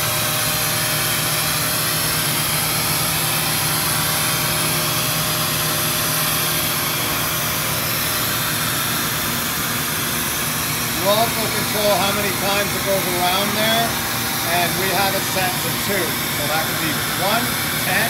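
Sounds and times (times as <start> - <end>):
orbital sander whirring: 0.0 - 18.0.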